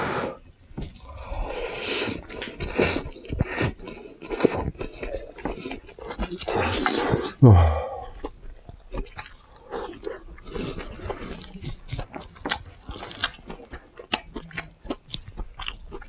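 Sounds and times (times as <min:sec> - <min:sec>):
person chewing crunchy food: 0:00.8 - 0:16.0.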